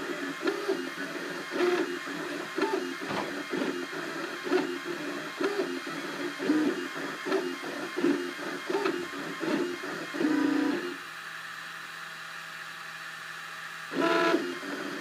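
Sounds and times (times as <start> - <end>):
printer stepper motors whining: 0.0 - 13.1, 13.7 - 15.0.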